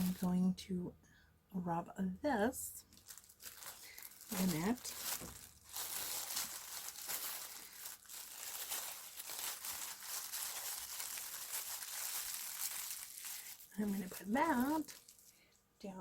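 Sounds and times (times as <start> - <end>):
packaging crinkling: 0.0 - 0.3, 2.9 - 15.6.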